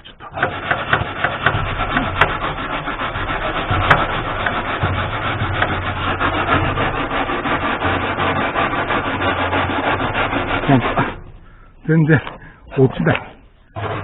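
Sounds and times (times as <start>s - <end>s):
scraping strokes on rusted steel: 0.0s - 14.0s.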